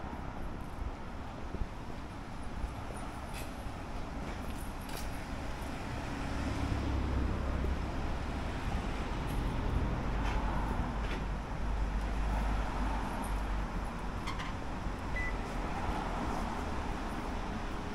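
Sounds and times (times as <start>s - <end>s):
city noise: 0.0s - 17.9s
vehicle rumble: 0.0s - 17.9s.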